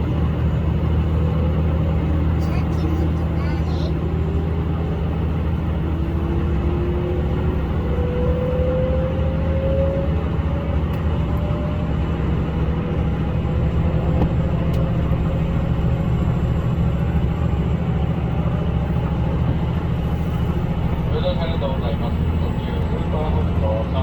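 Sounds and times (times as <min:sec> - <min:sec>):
diesel railcar rumbling: 0:00.0 - 0:24.0.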